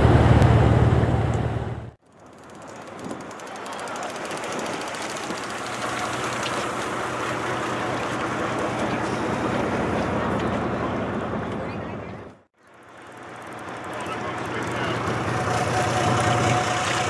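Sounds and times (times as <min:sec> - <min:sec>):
boat engine hum: 0:00.0 - 0:17.0
sea noise: 0:00.0 - 0:17.0
wind: 0:00.0 - 0:17.0.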